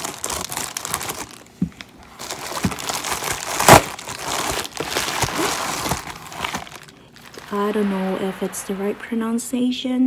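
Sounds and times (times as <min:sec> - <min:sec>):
packing paper crinkling: 0:00.0 - 0:08.8.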